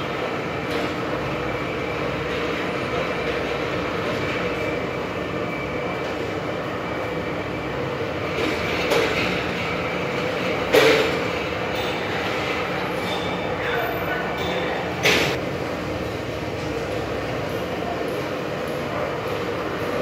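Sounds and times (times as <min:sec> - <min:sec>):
machinery running: 0:00.0 - 0:20.0.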